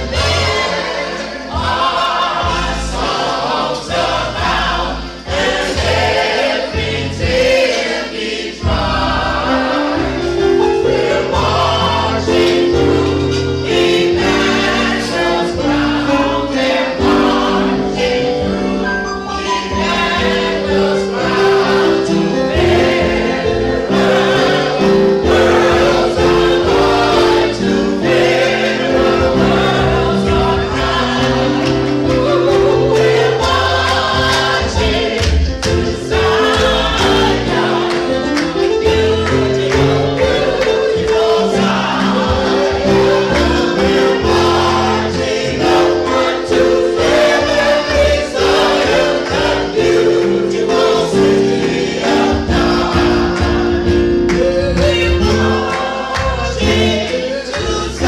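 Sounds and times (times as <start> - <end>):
gospel choir singing: 0.0 - 58.0
instrumental accompaniment with beat: 0.0 - 58.0.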